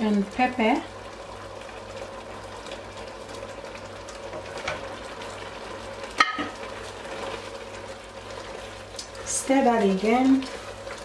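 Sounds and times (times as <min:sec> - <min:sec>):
soup simmering: 0:00.0 - 0:11.0.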